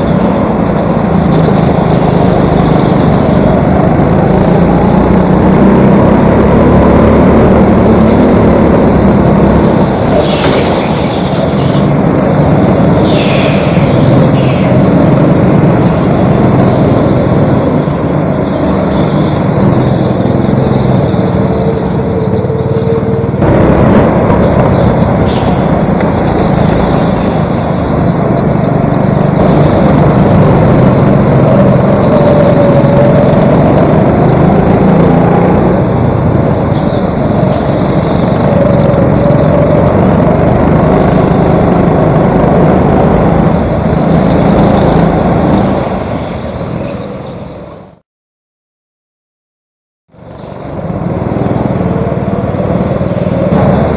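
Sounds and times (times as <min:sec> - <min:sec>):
go-kart engine running: 0:00.0 - 0:48.0, 0:50.2 - 0:53.9.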